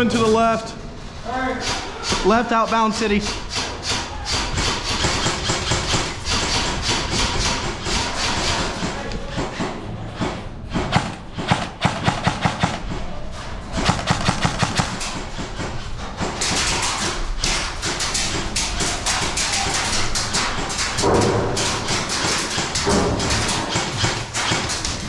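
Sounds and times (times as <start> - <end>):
airsoft guns firing: 3.2 - 13.1, 13.7 - 25.0.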